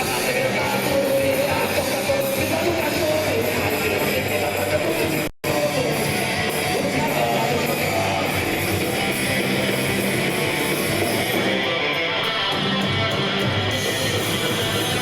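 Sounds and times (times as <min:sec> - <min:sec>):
live heavy rock band: 0:00.0 - 0:15.0.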